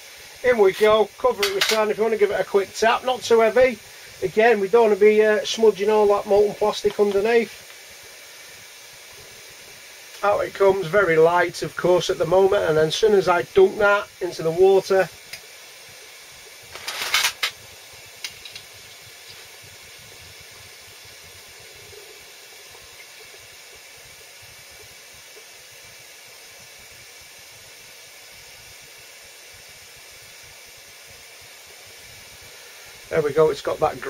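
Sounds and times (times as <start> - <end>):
faint steady hiss: 0.0 - 34.0
hot metal sizzling in water: 0.0 - 34.0.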